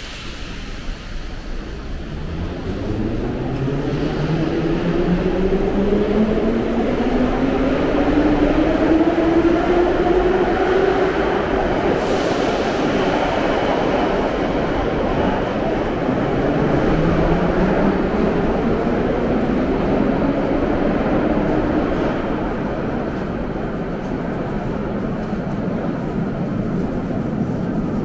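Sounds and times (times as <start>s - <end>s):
subway train motor whine: 0.0s - 28.0s
train rumble and track noise: 0.0s - 28.0s.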